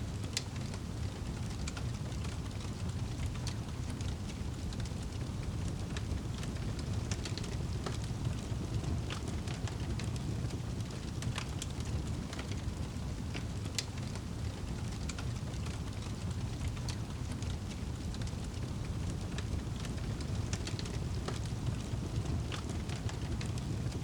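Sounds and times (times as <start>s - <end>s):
fire crackling in fireplace: 0.0s - 24.0s
fire pops and snaps: 0.1s - 24.0s.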